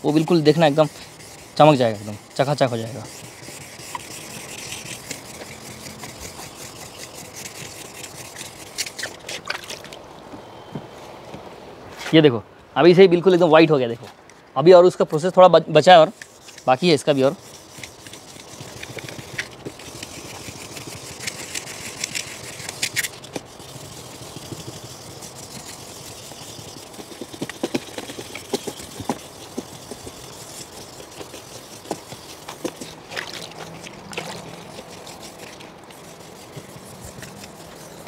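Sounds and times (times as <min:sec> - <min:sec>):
sandpaper scraping plastic: 0:00.0 - 0:09.8, 0:15.8 - 0:38.0.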